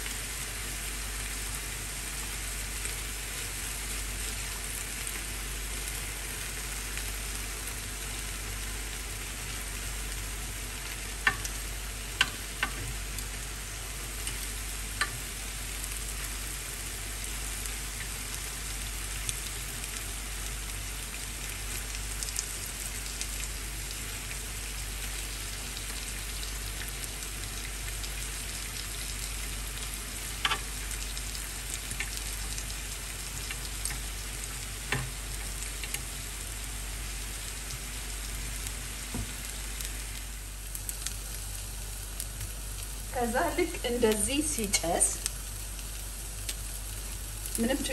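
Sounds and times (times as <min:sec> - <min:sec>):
chicken sizzling in a pan: 0:00.0 - 0:47.9.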